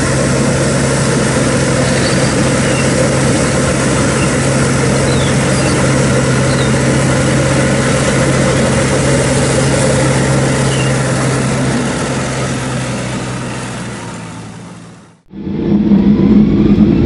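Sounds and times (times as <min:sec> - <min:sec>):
mower engine humming: 0:00.0 - 0:17.0.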